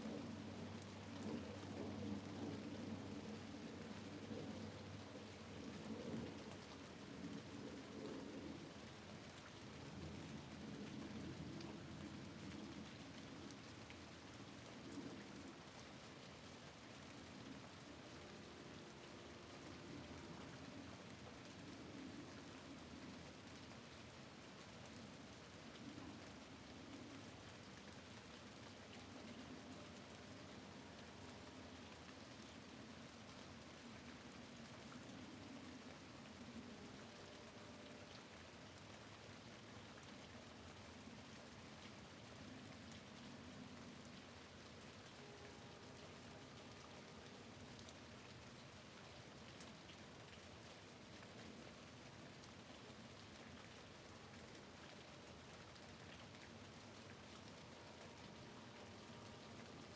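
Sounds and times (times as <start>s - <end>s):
faint steady rain: 0.0s - 59.9s.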